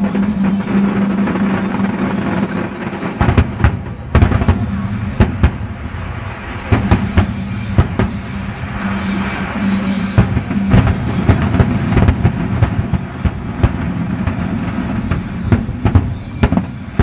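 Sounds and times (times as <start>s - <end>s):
fireworks bangs and booms: 0.0s - 17.0s.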